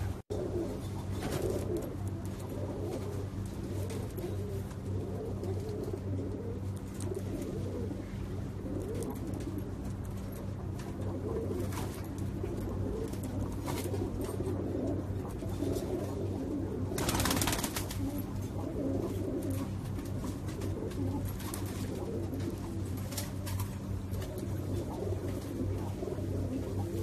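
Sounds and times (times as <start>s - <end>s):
pigeons cooing: 0.0s - 27.0s
steady low hum: 0.0s - 27.0s.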